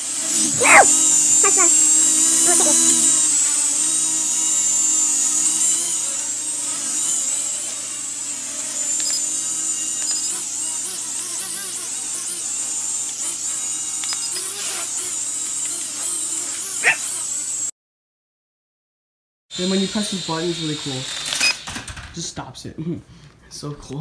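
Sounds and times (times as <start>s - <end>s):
toy drone motors whining: 0.0s - 17.7s, 19.6s - 22.0s.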